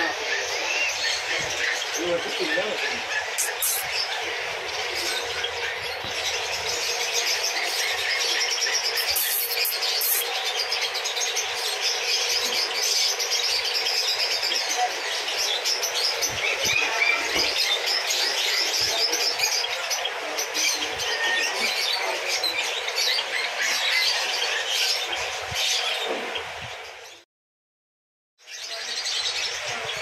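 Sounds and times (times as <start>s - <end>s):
caged birds chirping: 0.0s - 27.2s, 28.4s - 30.0s.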